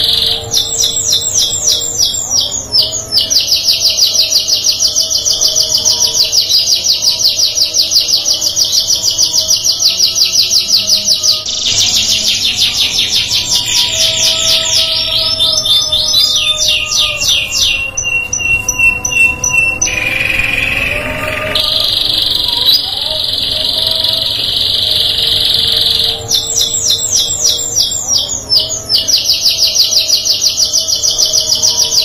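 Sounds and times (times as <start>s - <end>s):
canary trilling: 0.0s - 32.0s.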